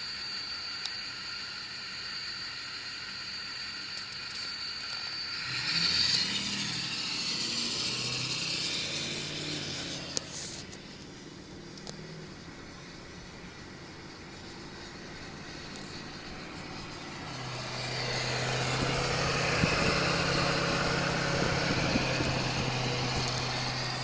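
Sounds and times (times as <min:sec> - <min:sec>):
high-pitched turbo whistle: 0:00.0 - 0:11.2, 0:12.7 - 0:24.0
diesel pickup engine: 0:01.3 - 0:24.0.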